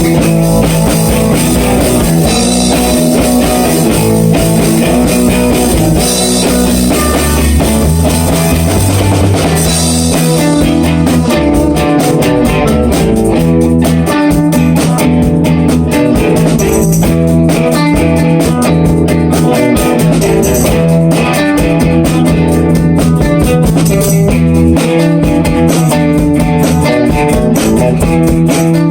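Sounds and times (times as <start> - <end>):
bass: 0.0 - 28.9
drum kit: 0.0 - 28.9
electric guitar: 0.0 - 28.9.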